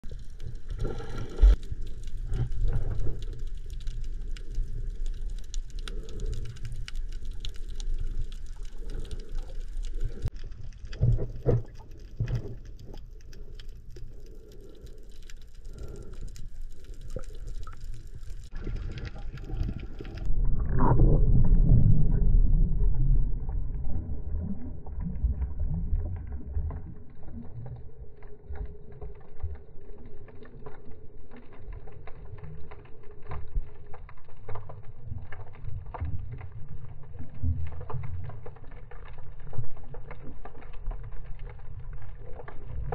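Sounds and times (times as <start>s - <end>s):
muffled underwater rumble: 0.0s - 42.9s
underwater clicking and crackling: 0.0s - 42.9s.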